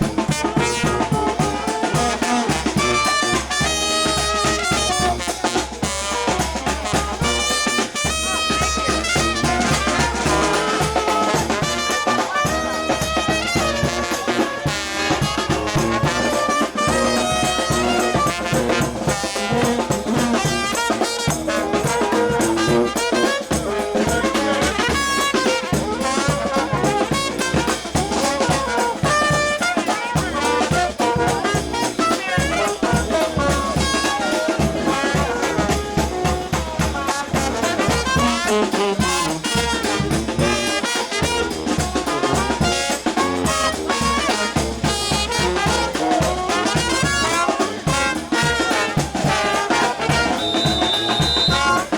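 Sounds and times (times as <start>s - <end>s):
bass drum and snare beat: 0.0s - 51.9s
trumpets and trombones: 0.0s - 51.9s.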